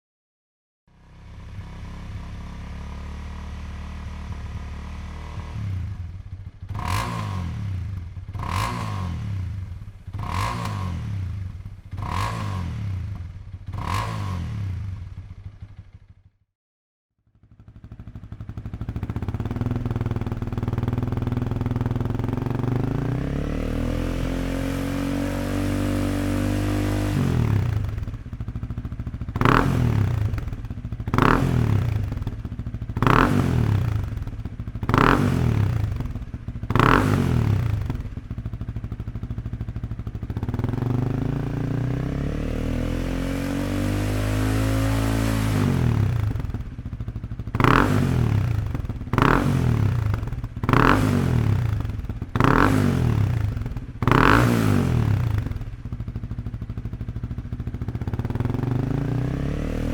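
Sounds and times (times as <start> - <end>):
motorcycle engine revving: 0.9 - 16.3, 17.4 - 59.9.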